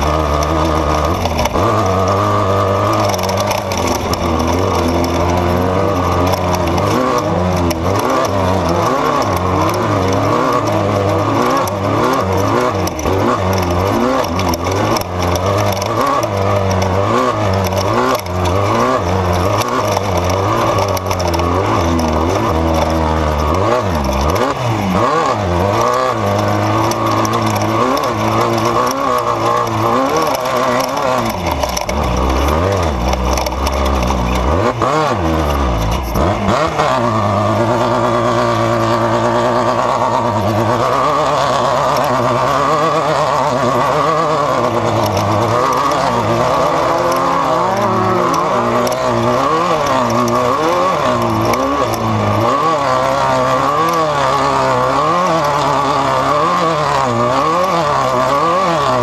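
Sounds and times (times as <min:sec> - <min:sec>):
driving over rough terrain: 0:00.0 - 0:59.0
race vehicle engine revving: 0:00.0 - 0:59.0.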